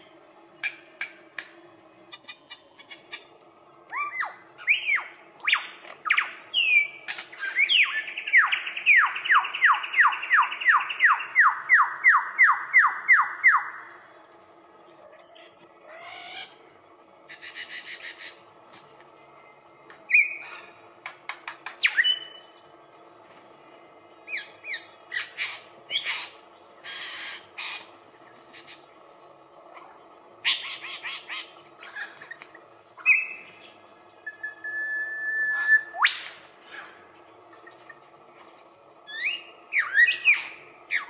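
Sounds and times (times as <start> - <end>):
lyrebird singing: 2.0 - 14.0, 15.2 - 22.8, 23.7 - 41.0.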